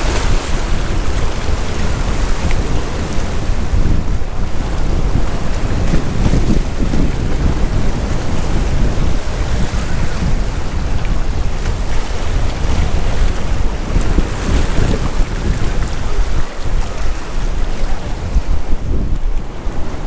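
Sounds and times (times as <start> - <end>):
sea waves: 0.0 - 20.0
wind buffeting microphone: 0.0 - 20.0.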